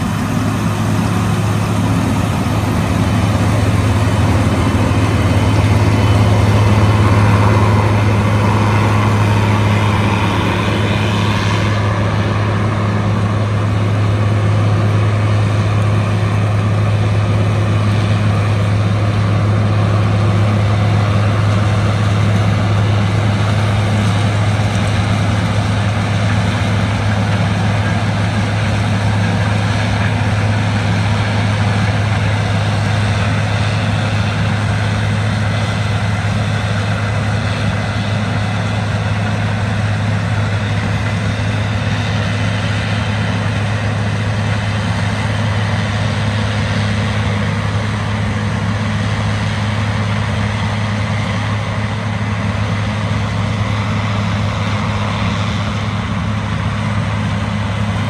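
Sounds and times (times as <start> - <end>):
combine harvester diesel drone: 0.0 - 58.0
thin steady whine: 0.0 - 58.0.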